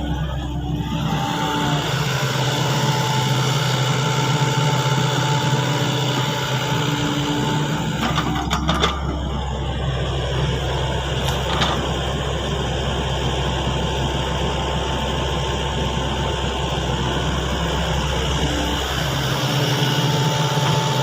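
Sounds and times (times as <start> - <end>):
excavator engine hum: 0.0 - 21.0.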